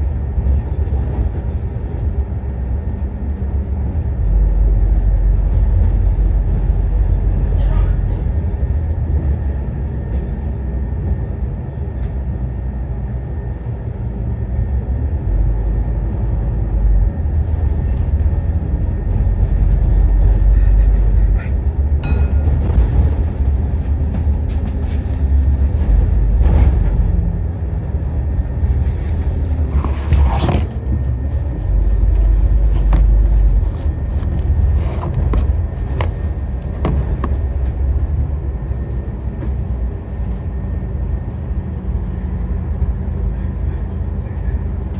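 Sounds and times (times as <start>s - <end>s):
diesel bus engine rumble: 0.0s - 44.9s.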